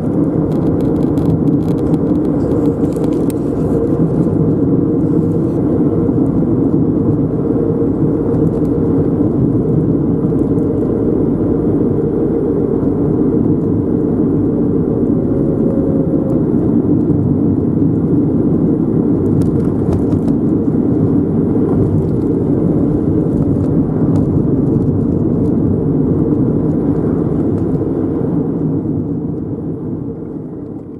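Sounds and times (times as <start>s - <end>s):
car road and engine rumble: 0.0s - 30.9s.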